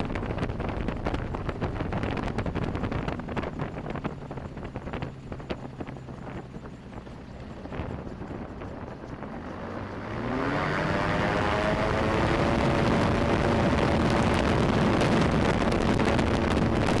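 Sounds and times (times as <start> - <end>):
gyroplane engine and propeller: 0.0 - 17.0
wind buffeting microphone: 0.0 - 17.0.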